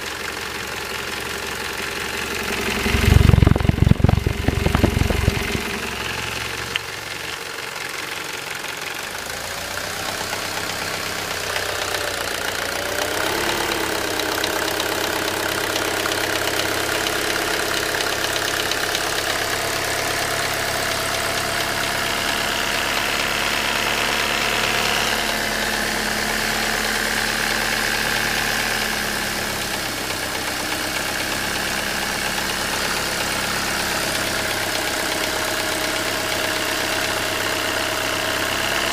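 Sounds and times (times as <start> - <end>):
diesel engine idling with rattle: 0.0 - 38.9.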